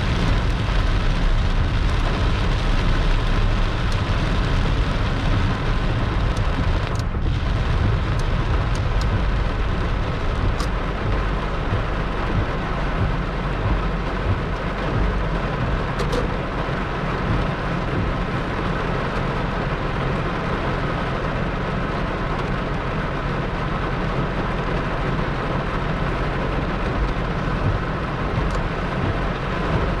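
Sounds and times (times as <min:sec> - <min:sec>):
low thunder rumble: 0:00.0 - 0:20.8, 0:25.0 - 0:30.0
heavy rain pouring: 0:00.0 - 0:30.0.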